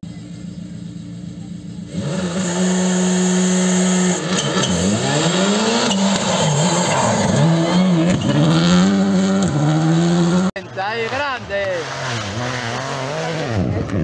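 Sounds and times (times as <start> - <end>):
rally car engine revving: 1.2 - 14.0.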